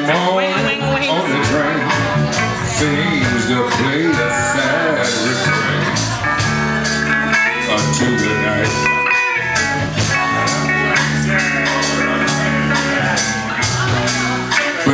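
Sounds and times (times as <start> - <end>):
drums: 0.0 - 14.9
electric guitar: 0.0 - 14.9
live blues band playing: 0.0 - 14.9.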